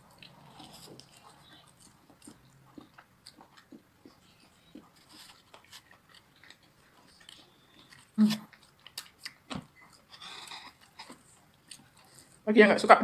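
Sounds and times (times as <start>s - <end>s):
person chewing: 0.0s - 12.4s.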